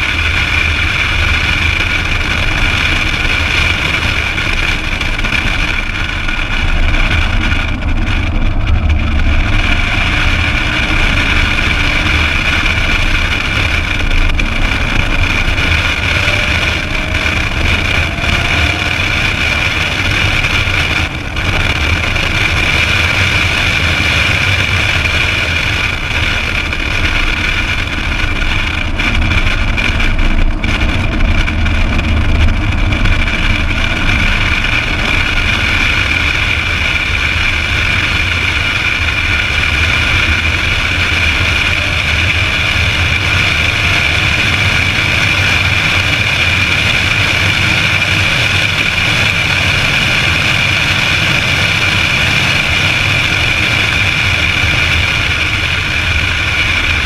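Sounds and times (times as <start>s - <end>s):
car engine running steadily: 0.0s - 57.0s
road and wind noise: 0.0s - 57.0s.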